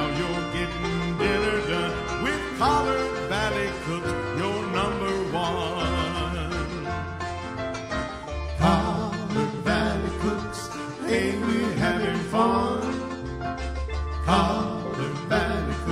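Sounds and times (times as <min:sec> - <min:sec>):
person singing: 0:00.0 - 0:07.2, 0:08.5 - 0:13.2, 0:14.2 - 0:15.9
plucked strings: 0:00.0 - 0:15.9
steady bass line: 0:00.0 - 0:15.9.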